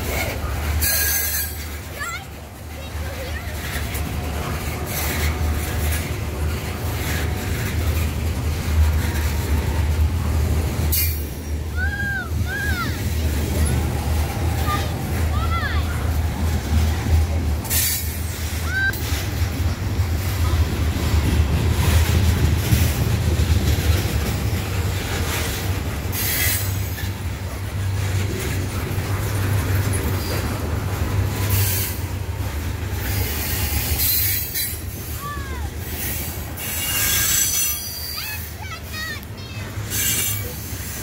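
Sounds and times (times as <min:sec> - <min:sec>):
train wheels rumbling on rail: 0:00.0 - 0:41.0
wheels screeching and hissing: 0:00.0 - 0:41.0.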